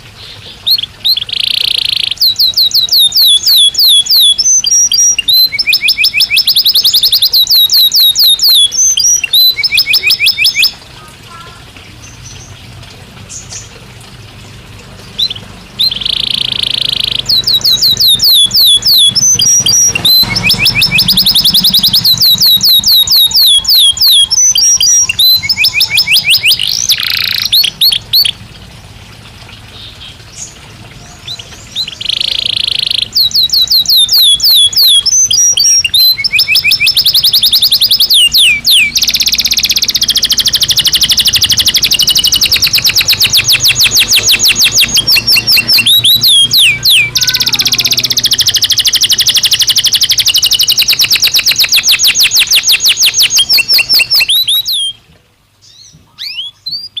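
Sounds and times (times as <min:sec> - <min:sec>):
canary singing trills: 0:00.0 - 0:13.9, 0:14.9 - 0:28.5, 0:29.7 - 0:55.0, 0:55.6 - 0:57.0.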